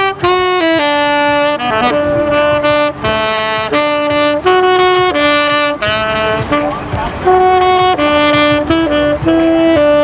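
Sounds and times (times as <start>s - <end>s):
saxophone melody: 0.0s - 10.0s.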